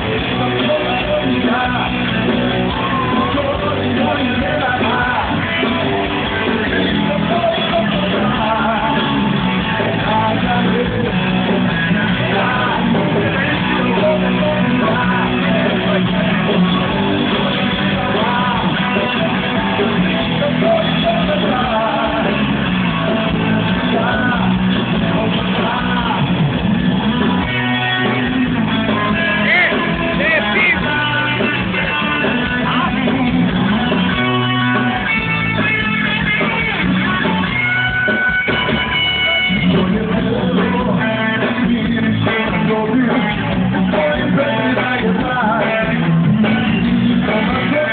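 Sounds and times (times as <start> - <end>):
person singing: 0.0 - 26.6, 27.4 - 47.9
electric guitar: 0.0 - 47.9
live rock band playing: 0.0 - 47.9.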